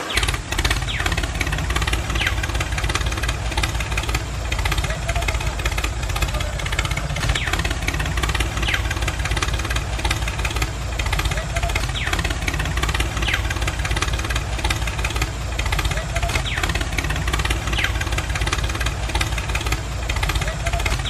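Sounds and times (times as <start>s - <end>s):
diesel tractor engine chugging: 0.0s - 21.0s.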